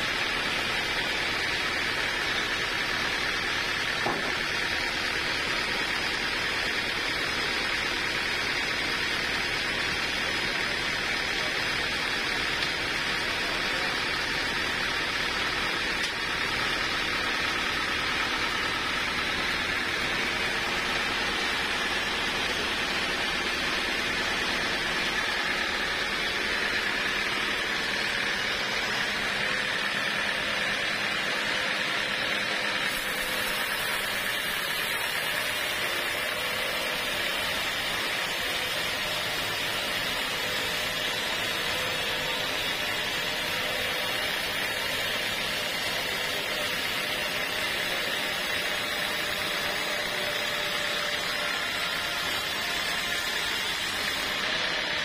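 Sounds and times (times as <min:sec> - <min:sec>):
band saw sawing through log: 0:00.0 - 0:55.0.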